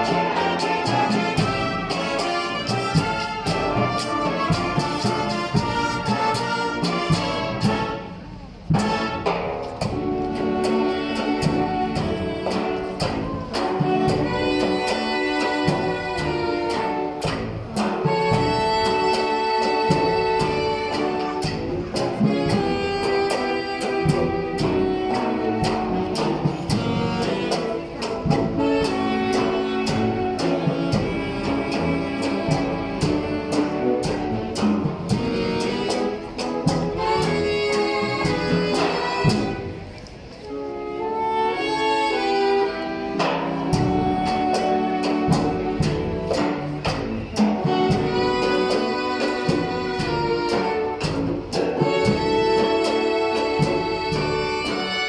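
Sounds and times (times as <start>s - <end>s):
steady drum beat: 0.0s - 40.3s, 42.2s - 55.0s
wind band playing: 0.0s - 55.0s.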